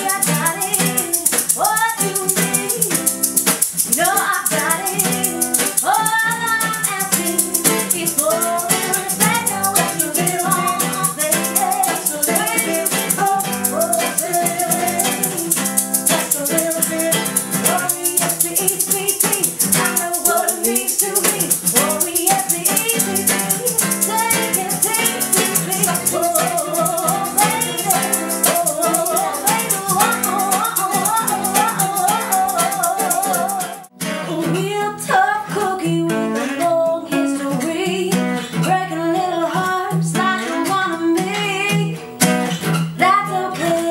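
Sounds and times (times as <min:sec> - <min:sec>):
plucked guitar: 0:00.0 - 0:43.9
shaker rhythm: 0:00.0 - 0:43.9.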